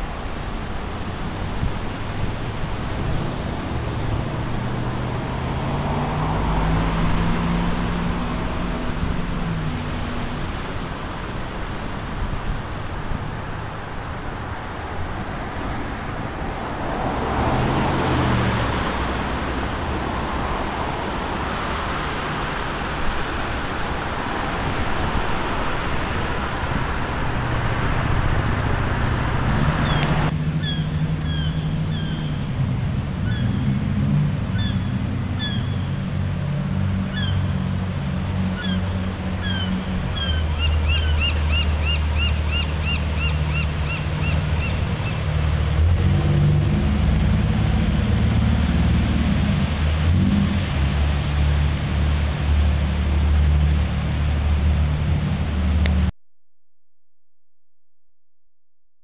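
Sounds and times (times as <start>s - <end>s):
boat engine droning: 0.0s - 56.1s.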